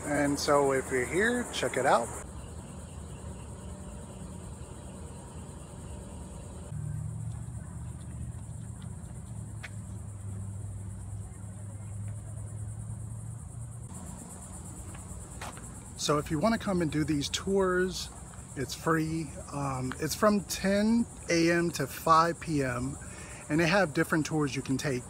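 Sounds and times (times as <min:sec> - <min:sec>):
high insect chirring: 0:00.0 - 0:25.0.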